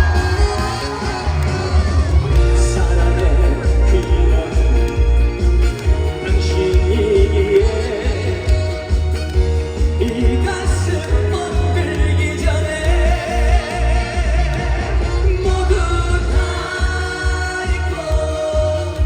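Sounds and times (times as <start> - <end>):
band accompaniment with pulsing bass: 0.0 - 19.0
man singing with vibrato: 0.0 - 19.0.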